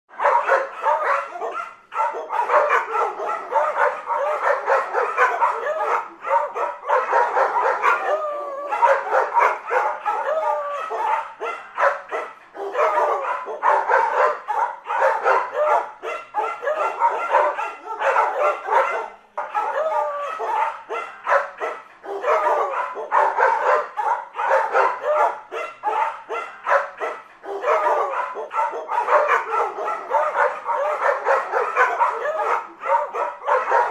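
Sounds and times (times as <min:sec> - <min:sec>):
dogs barking: 0:00.1 - 0:33.9.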